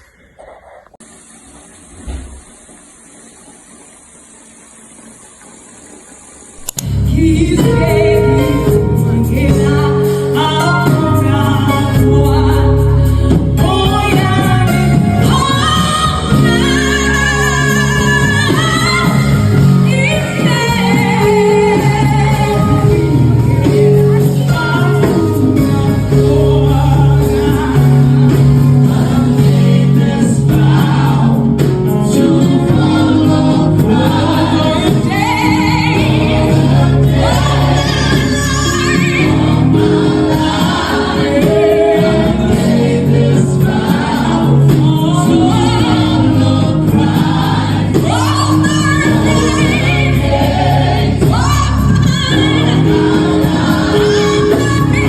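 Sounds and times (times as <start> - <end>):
steady musical accompaniment: 6.7 - 55.0
gospel choir singing: 6.8 - 55.0.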